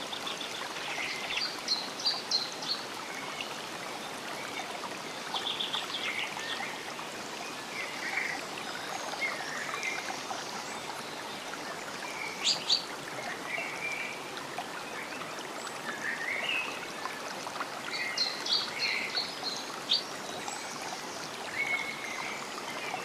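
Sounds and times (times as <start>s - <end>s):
stream running: 0.0s - 23.0s.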